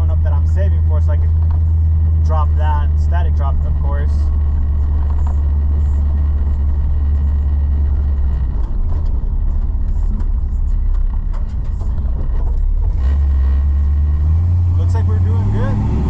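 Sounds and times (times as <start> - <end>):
pickup engine and road drone: 0.0 - 16.0.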